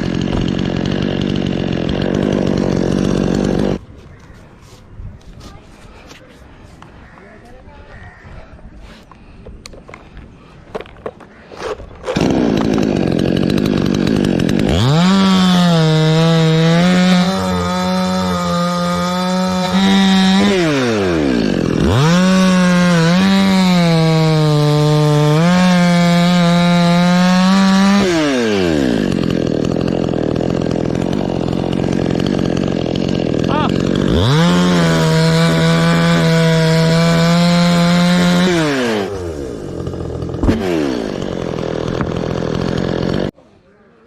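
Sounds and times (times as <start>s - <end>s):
chainsaw starting and revving: 0.0s - 3.8s, 11.1s - 43.4s.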